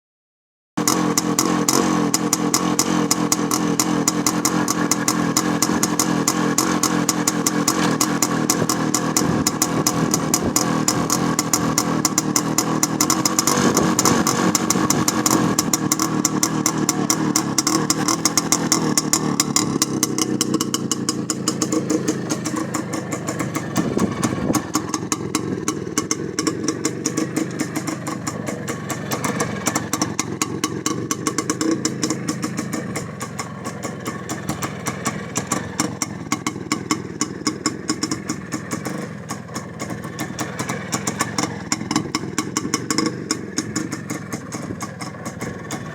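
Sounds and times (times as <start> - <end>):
two-stroke motorcycle engine running: 0.8 - 45.9.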